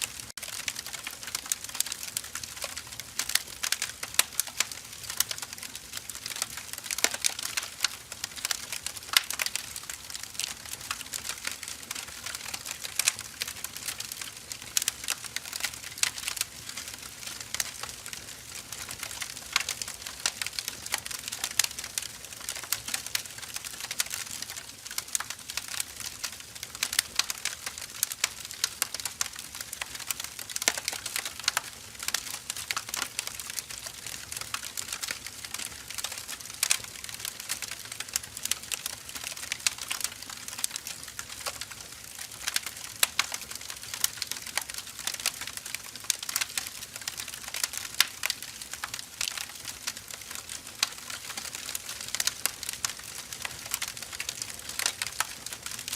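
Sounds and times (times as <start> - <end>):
firewood crackling and popping: 0.0 - 55.9.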